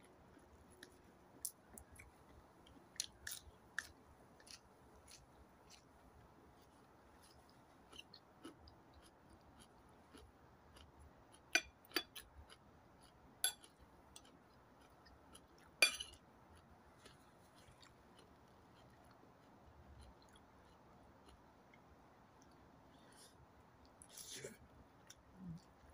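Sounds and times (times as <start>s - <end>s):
quiet chewing: 0.0s - 25.9s.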